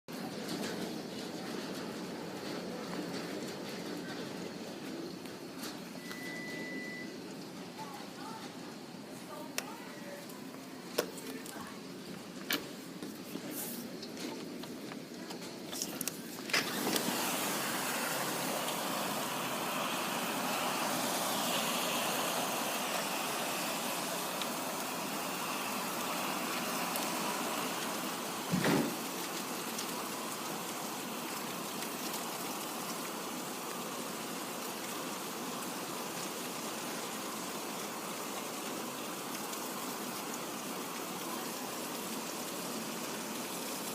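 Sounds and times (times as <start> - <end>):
rain: 0.1 - 43.9.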